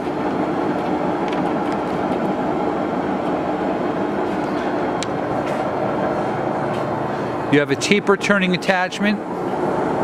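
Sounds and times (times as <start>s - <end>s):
machinery hum and whir: 0.0s - 10.0s.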